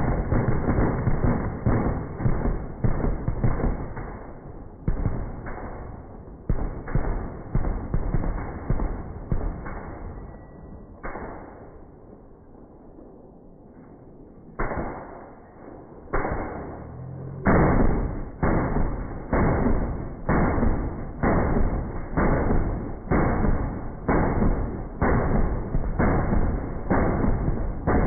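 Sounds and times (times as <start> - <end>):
slowed machine gun booms: 0.0 - 28.0.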